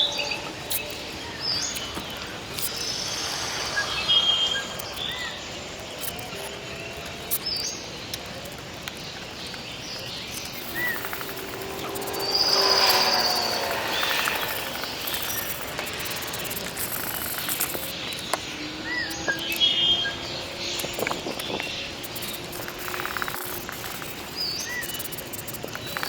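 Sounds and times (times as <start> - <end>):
birds chirping: 0.0 - 26.0
outdoor background noise: 0.0 - 26.0.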